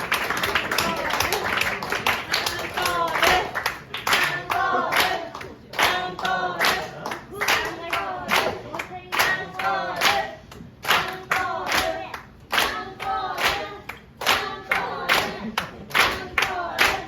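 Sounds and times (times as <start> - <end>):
audience clapping in rhythm: 0.0 - 17.0
voices singing or chanting: 0.6 - 17.0.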